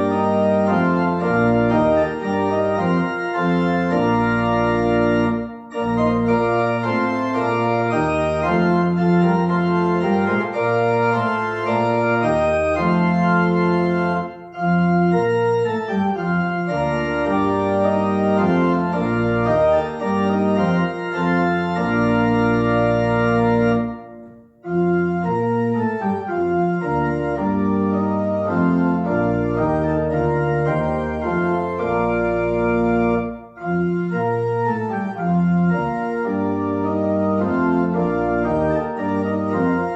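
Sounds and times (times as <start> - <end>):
organ playing chords: 0.0 - 39.9.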